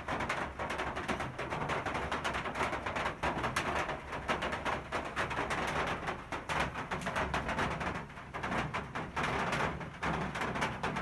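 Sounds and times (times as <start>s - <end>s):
rain drops tapping on surfaces: 0.0s - 11.0s.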